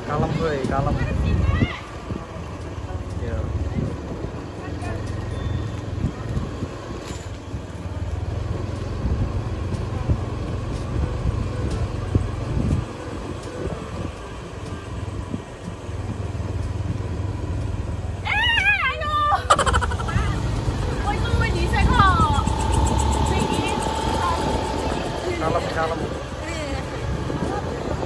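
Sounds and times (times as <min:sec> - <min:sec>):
wind buffeting microphone: 0:00.0 - 0:05.0, 0:05.7 - 0:18.2, 0:19.4 - 0:28.0
bicycle tyres rolling on concrete: 0:00.0 - 0:28.0.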